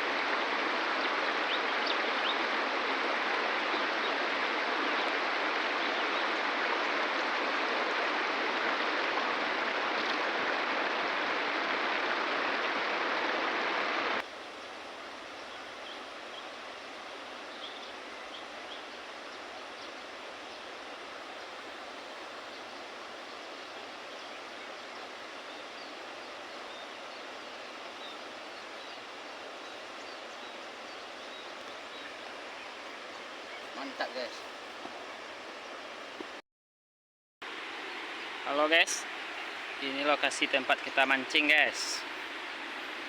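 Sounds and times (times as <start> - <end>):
river water rushing: 0.0 - 36.4, 37.5 - 43.0.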